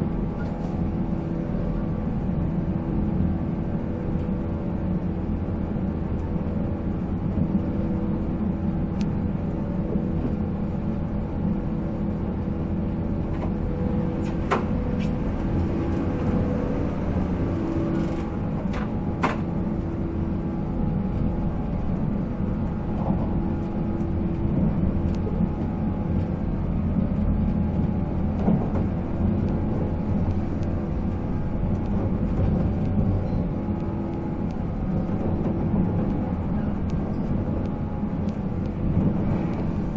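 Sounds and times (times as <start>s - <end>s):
electric train motors humming: 0.0s - 39.9s
wheels rumbling on rail: 0.0s - 39.9s.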